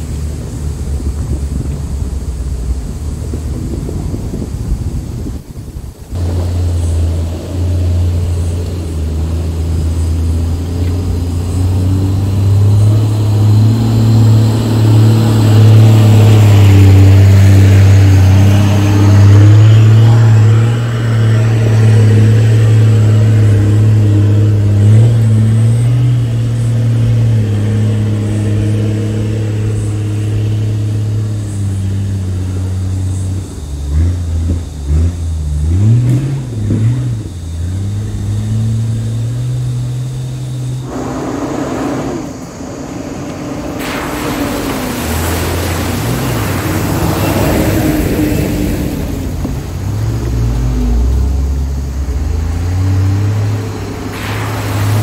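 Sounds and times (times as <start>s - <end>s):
vehicle engine low rumble: 0.0s - 55.0s.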